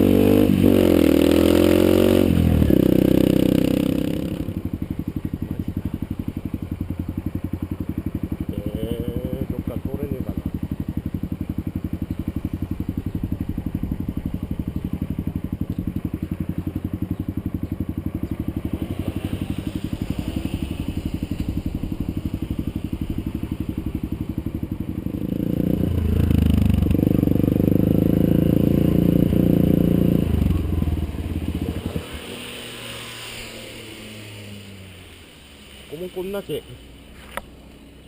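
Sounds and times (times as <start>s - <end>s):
vehicle engine idling and revving: 0.0s - 38.0s.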